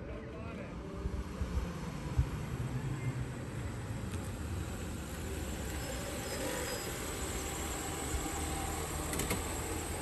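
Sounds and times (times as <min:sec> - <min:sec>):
van engine rumbling: 0:00.8 - 0:10.0.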